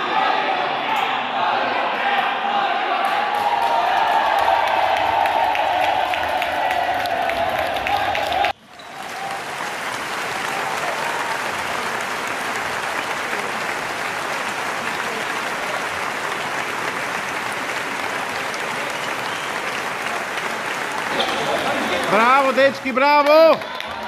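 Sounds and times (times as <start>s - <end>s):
crowd applauding: 3.1s - 24.0s.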